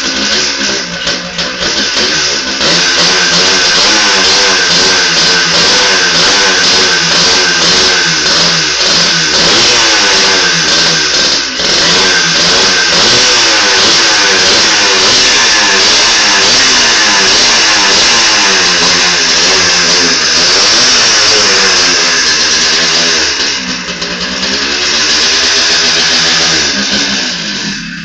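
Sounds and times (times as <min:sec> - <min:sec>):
two-stroke motorcycle engine revving: 0:00.0 - 0:28.0.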